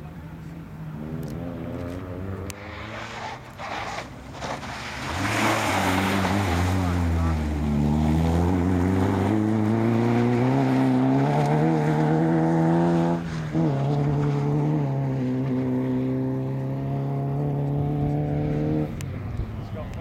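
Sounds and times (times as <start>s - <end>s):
rally car engine revving: 0.0s - 19.8s.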